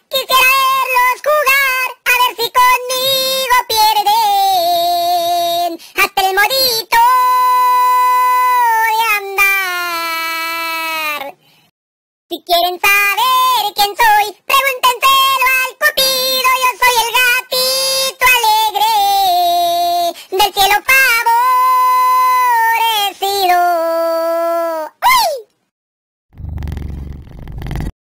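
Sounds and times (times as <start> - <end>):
high-pitched cartoonish voice singing: 0.0 - 11.4, 12.3 - 25.6.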